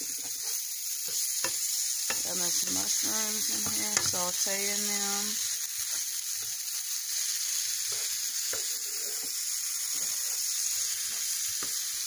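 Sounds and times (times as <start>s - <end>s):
mushrooms sizzling in a frying pan: 0.0s - 12.0s.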